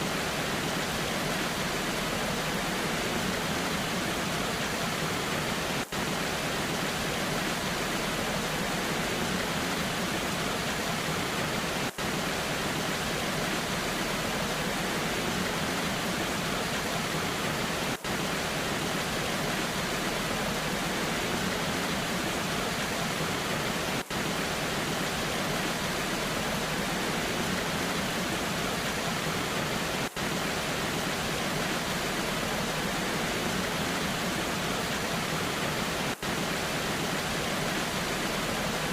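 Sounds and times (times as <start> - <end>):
rain: 0.0 - 38.9
waterfall rushing: 0.0 - 38.9.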